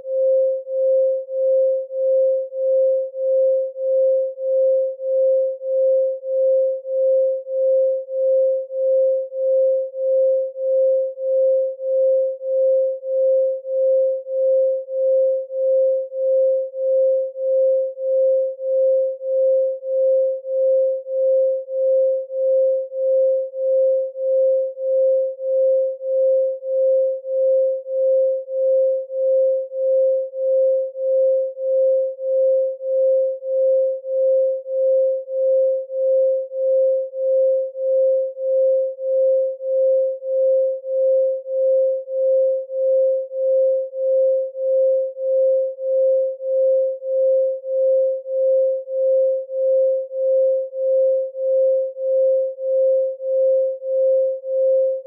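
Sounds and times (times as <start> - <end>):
pulsing pure sine tone: 0.0 - 55.0.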